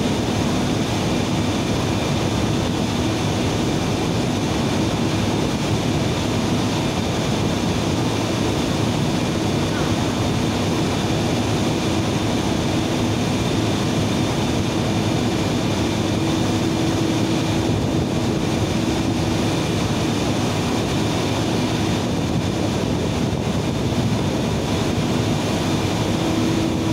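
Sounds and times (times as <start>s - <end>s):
power plant machinery drone: 0.0s - 26.9s.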